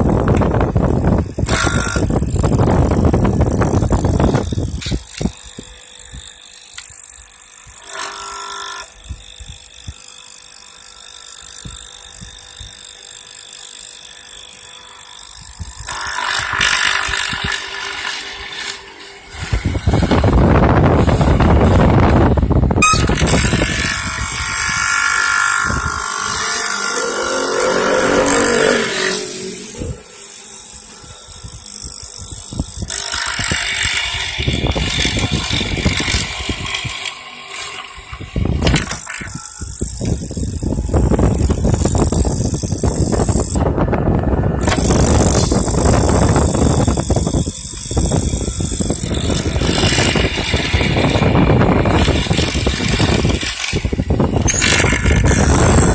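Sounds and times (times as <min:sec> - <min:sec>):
mortising machine cutting wood: 0:00.0 - 0:55.9.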